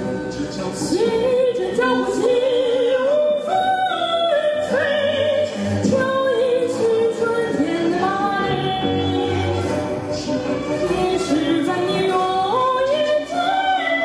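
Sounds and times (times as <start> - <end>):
woman singing into microphone: 0.9 - 9.6, 10.8 - 14.0.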